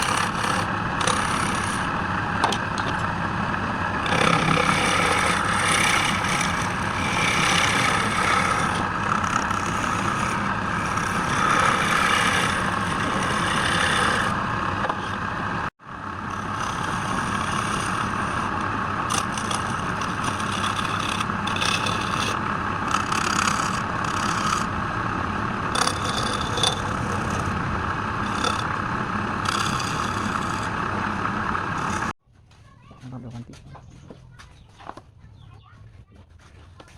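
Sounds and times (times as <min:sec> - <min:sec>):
turning tool scraping wood: 0:00.0 - 0:03.1, 0:03.9 - 0:15.4, 0:16.2 - 0:32.2
lathe motor hum: 0:00.0 - 0:32.2.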